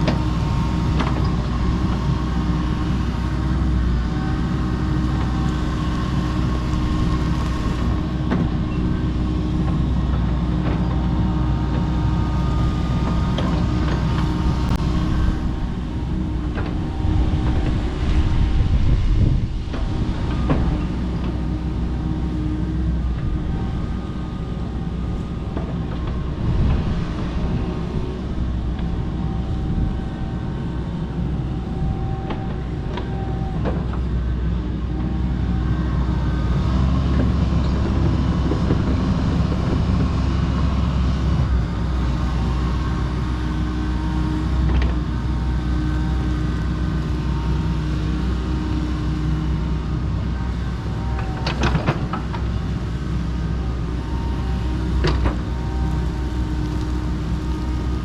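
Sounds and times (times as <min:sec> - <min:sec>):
excavator running: 0:00.0 - 0:58.0.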